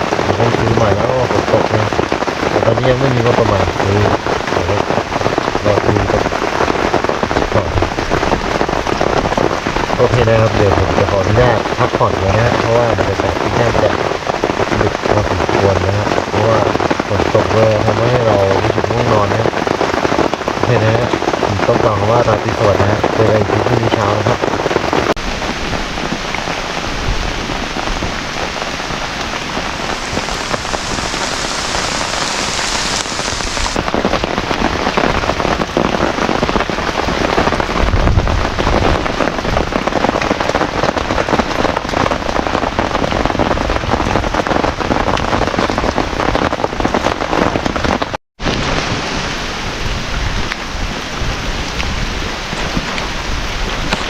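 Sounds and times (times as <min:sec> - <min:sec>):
heavy rain on a tarpaulin: 0:00.0 - 0:54.0.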